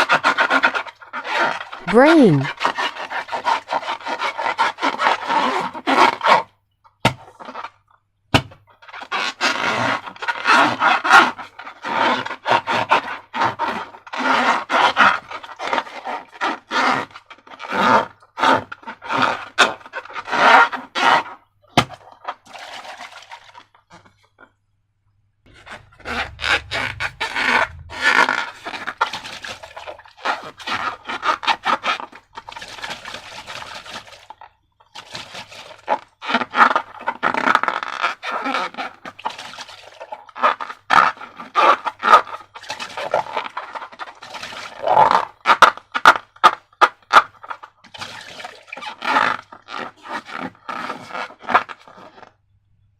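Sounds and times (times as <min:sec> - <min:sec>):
slime and balloon scraping: 0:00.0 - 0:06.5, 0:08.8 - 0:24.4, 0:25.5 - 0:52.4.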